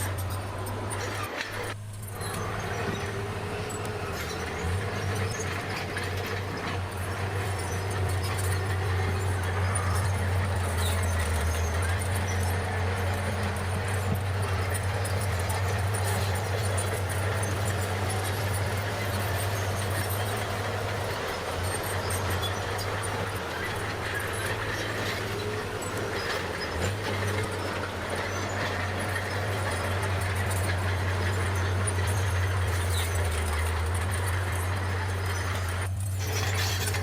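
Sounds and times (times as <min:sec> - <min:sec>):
bulldozer diesel engine droning: 0:00.0 - 0:37.0
machine clattering: 0:00.0 - 0:37.0.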